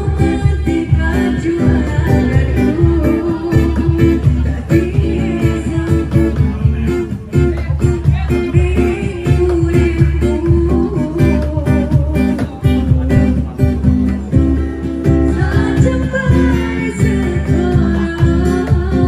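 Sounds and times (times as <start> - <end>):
acoustic guitar strumming: 0.0 - 19.0
woman singing: 0.0 - 19.0.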